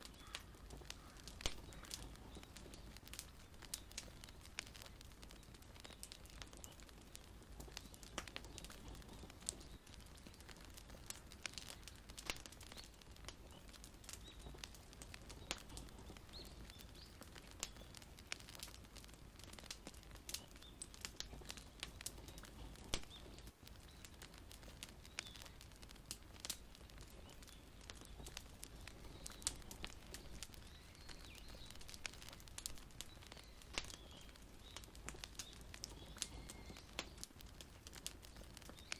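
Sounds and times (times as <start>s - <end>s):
soft low hiss: 0.0s - 38.9s
wood fire crackling: 0.0s - 38.9s.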